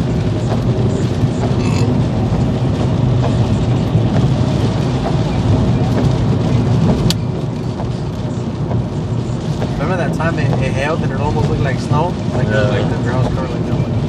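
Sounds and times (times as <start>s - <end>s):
road and tyre noise in car: 0.0s - 14.0s.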